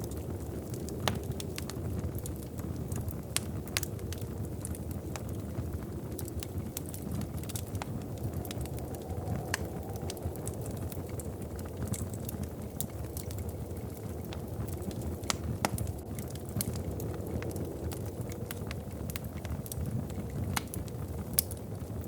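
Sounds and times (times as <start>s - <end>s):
steady low rumble: 0.0s - 21.9s
wood fire crackling: 0.0s - 22.0s.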